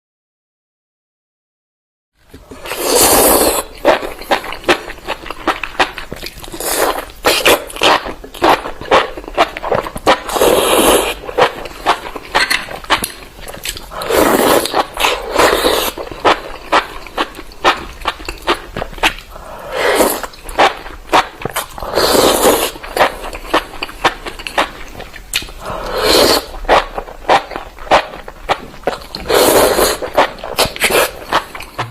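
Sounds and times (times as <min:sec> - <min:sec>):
wet chewing: 0:02.3 - 0:31.9
slurping: 0:02.4 - 0:31.9.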